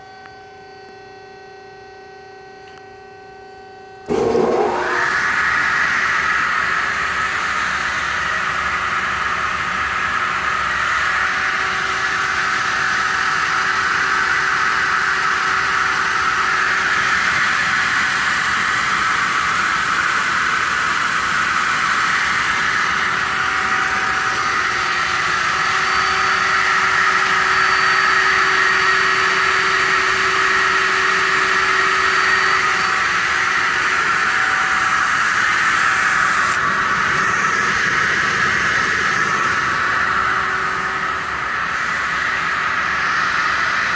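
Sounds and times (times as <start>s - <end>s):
circular saw whirring: 4.0s - 43.9s.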